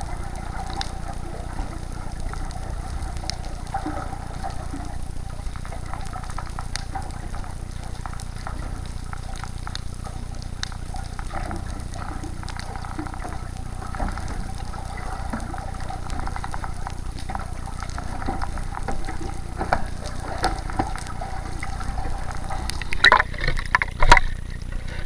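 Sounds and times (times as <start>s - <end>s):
low underwater rumble: 0.0s - 25.0s
muffled underwater movement: 0.0s - 25.0s
small underwater clicks: 0.0s - 25.0s
water splashes: 0.0s - 25.0s.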